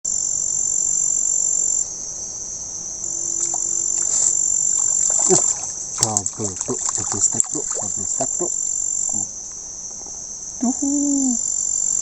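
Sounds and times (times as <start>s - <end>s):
insects high-pitched trill: 0.1s - 12.0s.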